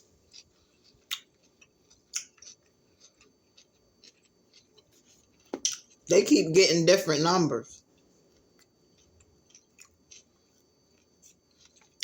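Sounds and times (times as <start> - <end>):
person chewing crunchy food: 0.1 - 6.1, 8.0 - 12.0.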